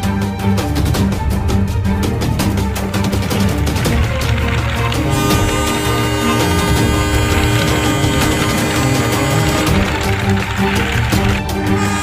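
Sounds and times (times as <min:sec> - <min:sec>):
music with fast steady beat: 0:00.0 - 0:12.0.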